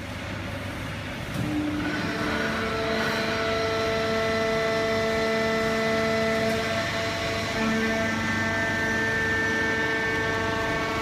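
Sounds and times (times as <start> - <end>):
baler machine humming: 0.6 - 11.0
machine whine: 1.3 - 11.0.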